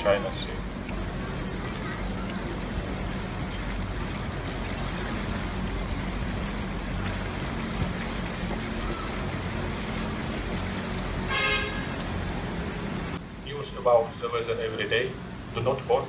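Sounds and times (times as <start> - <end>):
rushing floodwater: 0.0 - 16.0.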